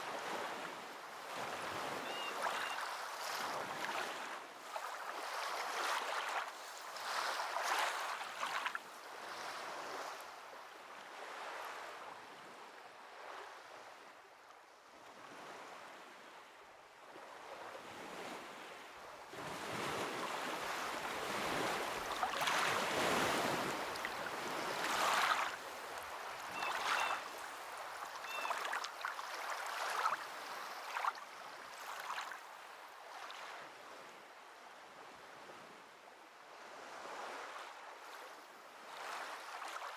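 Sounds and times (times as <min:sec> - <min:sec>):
waves washing in and out: 0:00.0 - 0:14.3, 0:14.9 - 0:39.9.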